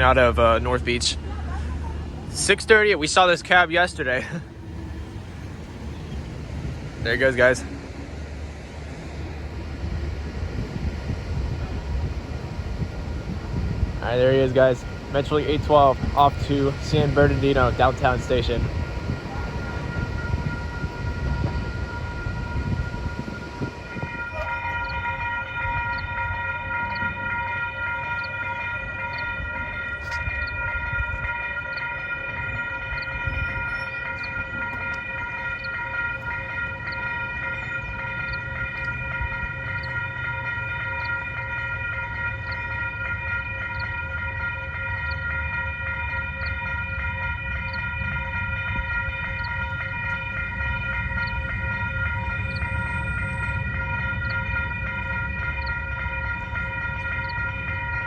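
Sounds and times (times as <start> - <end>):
railroad crossing bell ringing: 0.0 - 58.0.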